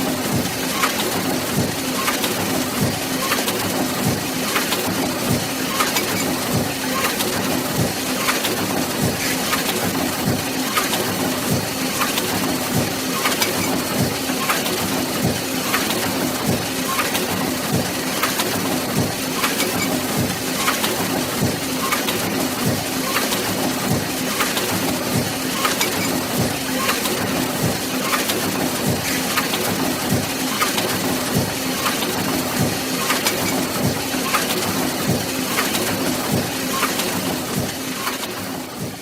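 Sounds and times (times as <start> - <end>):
mechanical clatter: 0.0 - 39.0.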